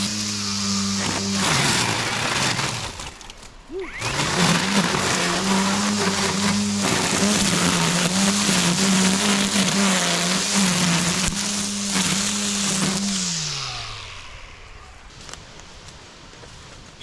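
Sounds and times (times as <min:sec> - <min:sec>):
power tool motor running: 0:00.0 - 0:03.2, 0:04.0 - 0:14.8
hissing grinding noise: 0:00.0 - 0:16.2.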